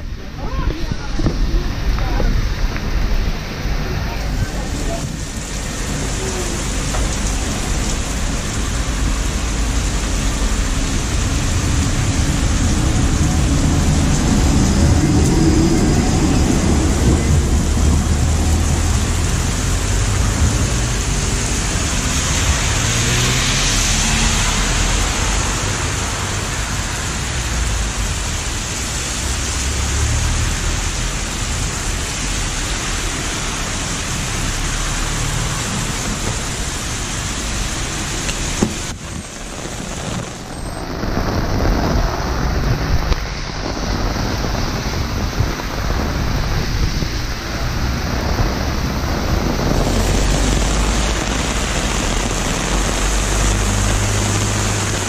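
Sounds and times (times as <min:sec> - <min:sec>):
heavy rain on pavement: 0:00.0 - 0:55.0.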